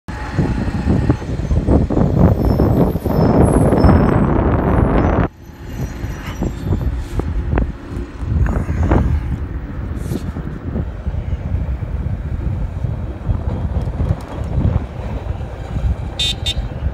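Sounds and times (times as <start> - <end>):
street traffic: 0.1 - 16.9
wind buffeting microphone: 0.1 - 16.9.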